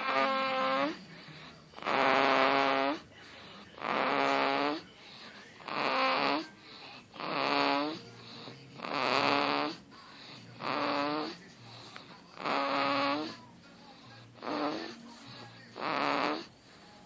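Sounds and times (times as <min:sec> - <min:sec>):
baby snoring: 0:00.0 - 0:17.0.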